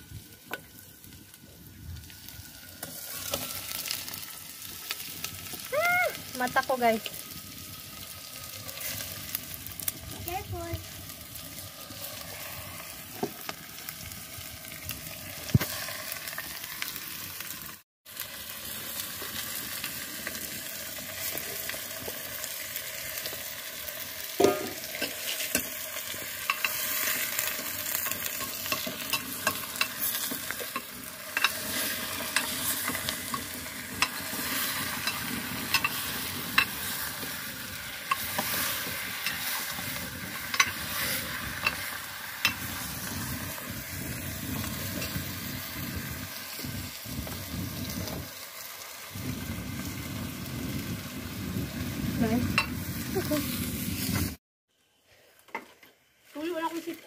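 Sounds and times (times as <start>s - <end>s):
meat sizzling in oil: 0.0s - 54.4s.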